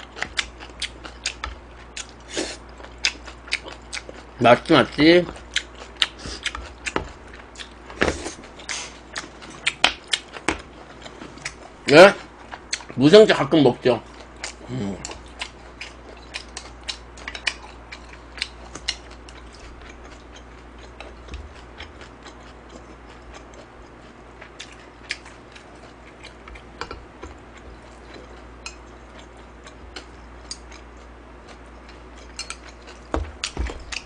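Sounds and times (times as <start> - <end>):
person chewing noodles: 0.0 - 4.4, 5.2 - 13.0, 14.0 - 34.0.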